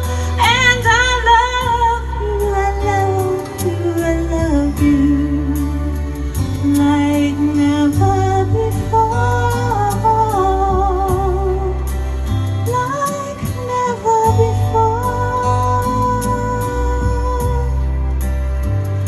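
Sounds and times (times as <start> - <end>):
instrumental backing with bass: 0.0 - 19.0
woman singing a slow ballad: 0.0 - 19.0.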